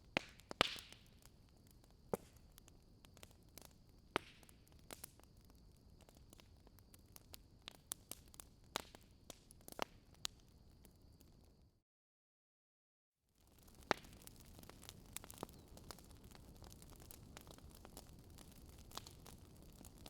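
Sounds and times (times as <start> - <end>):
log fire crackling: 0.0 - 11.6, 13.4 - 20.0.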